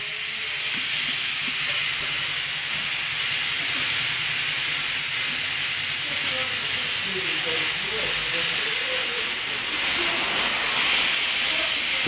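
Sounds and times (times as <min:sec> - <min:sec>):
fluid extractor hissing and whistling: 0:00.0 - 0:12.0.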